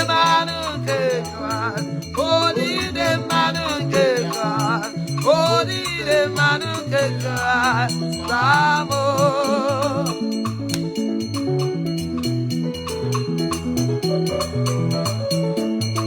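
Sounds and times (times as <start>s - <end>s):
walking bass line: 0.0s - 16.0s.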